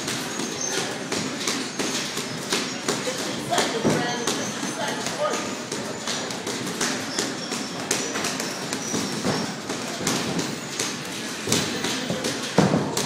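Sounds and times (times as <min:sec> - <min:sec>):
footwork on ring canvas: 0:00.0 - 0:13.0.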